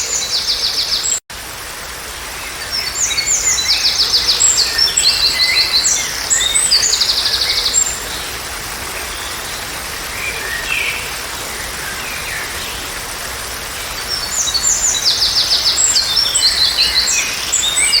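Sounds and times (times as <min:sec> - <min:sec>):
songbirds chirping: 0:00.0 - 0:01.2, 0:02.3 - 0:18.0
rushing water: 0:00.0 - 0:18.0.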